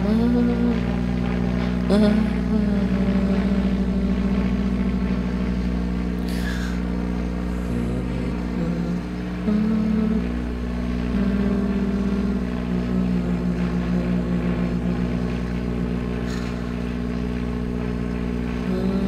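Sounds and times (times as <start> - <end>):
low drone: 0.0 - 19.0
slow held melody: 0.0 - 19.0.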